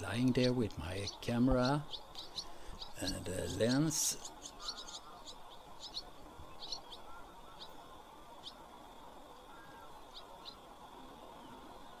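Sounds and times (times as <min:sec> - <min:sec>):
small birds chirping: 0:00.0 - 0:12.0
thin steady high whine: 0:00.0 - 0:12.0.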